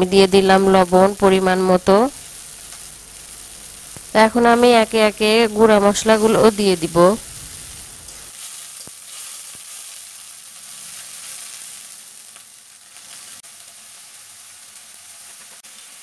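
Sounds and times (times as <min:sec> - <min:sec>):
onion base sizzling in oil: 0:00.0 - 0:16.0.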